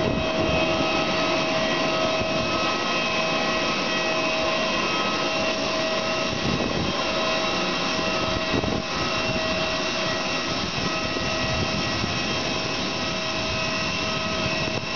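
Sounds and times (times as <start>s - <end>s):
jet turbine whine and roar: 0.0s - 14.9s.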